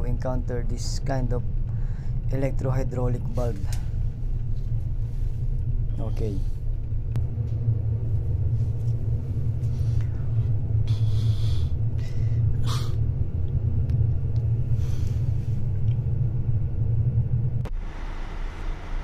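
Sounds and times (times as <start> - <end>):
ship machinery rumbling: 0.0 - 19.0.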